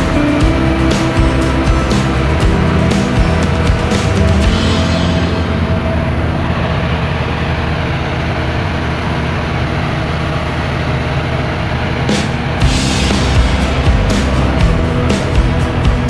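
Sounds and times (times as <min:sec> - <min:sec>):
jet airliner rumbling: 0:00.0 - 0:16.0.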